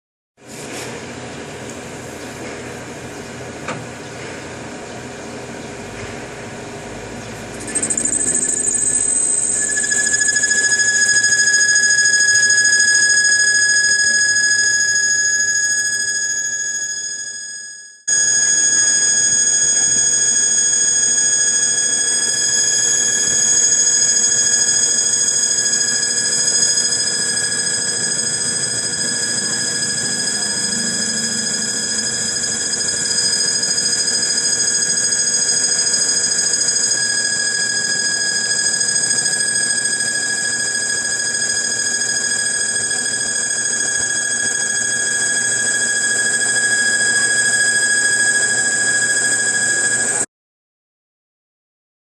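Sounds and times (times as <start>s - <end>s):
lathe whining: 7.5s - 17.4s, 18.1s - 50.3s.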